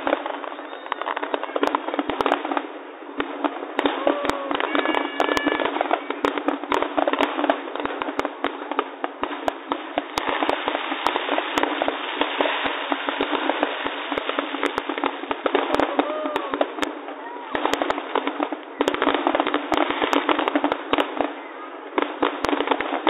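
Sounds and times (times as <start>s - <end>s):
fireworks popping and banging: 0.0s - 23.0s.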